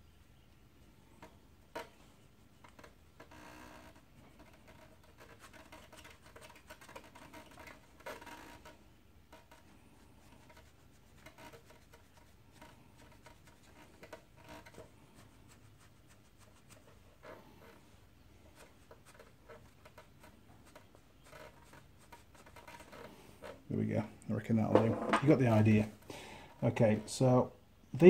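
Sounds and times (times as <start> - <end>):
scratching and rubbing: 1.0 - 27.4.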